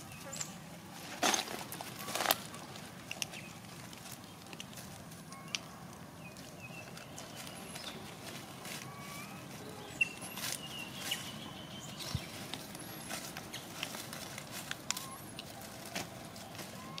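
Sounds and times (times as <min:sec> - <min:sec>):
clicks and crackles in leaf litter: 0:00.0 - 0:17.0.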